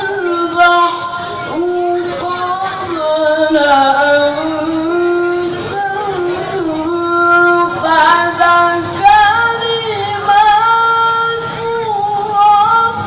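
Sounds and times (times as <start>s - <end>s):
child chanting melodically: 0.0s - 13.0s.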